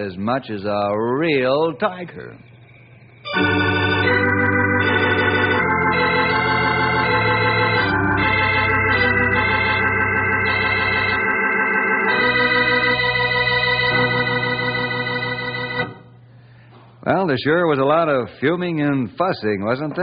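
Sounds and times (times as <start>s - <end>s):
organ held chords: 0.0s - 18.2s.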